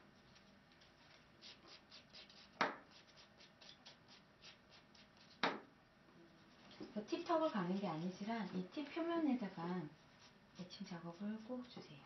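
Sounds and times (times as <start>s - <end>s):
nail file rubbing: 0.2s - 5.6s, 6.4s - 8.4s, 9.6s - 11.9s.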